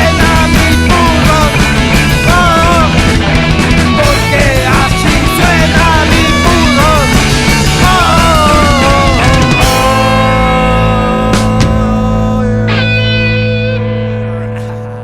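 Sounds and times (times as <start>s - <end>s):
punk rock band playing: 0.0s - 14.6s
electric guitar lead: 0.0s - 15.0s.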